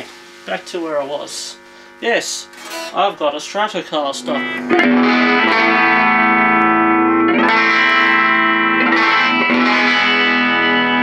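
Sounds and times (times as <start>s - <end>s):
electric guitar chords strummed: 0.0s - 11.0s.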